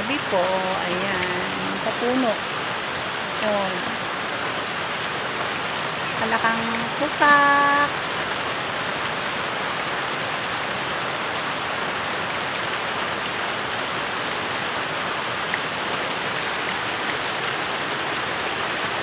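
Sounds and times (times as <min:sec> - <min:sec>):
heavy rain on trees and leaves: 0:00.0 - 0:19.0.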